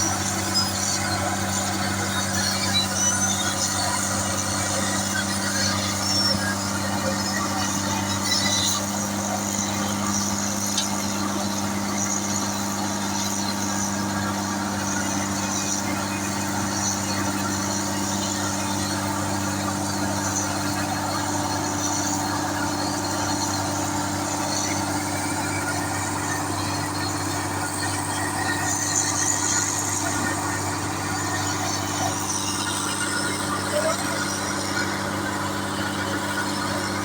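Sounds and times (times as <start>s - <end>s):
machinery engine humming: 0.0s - 37.0s.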